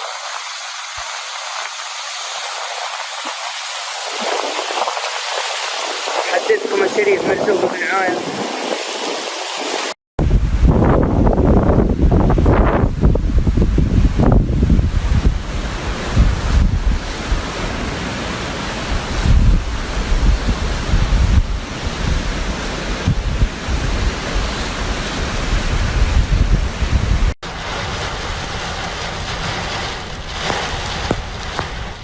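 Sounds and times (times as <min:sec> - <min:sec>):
floodwater rushing: 0:00.0 - 0:10.0, 0:13.1 - 0:26.1, 0:26.7 - 0:32.0
wind buffeting microphone: 0:00.0 - 0:32.0.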